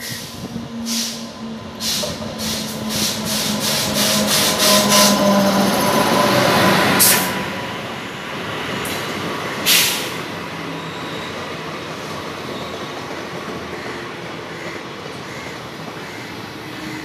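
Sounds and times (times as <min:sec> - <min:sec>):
electric locomotive whine: 0:00.0 - 0:17.0
train coaches rumbling on rails: 0:00.0 - 0:17.0.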